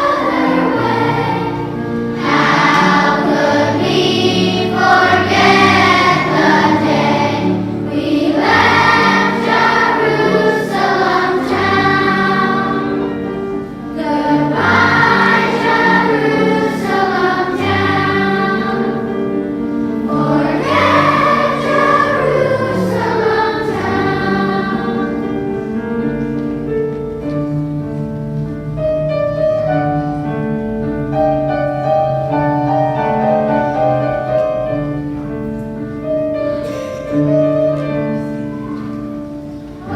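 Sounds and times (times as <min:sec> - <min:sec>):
children's choir singing: 0:00.0 - 0:28.1, 0:31.1 - 0:39.9
piano accompaniment: 0:00.0 - 0:39.9.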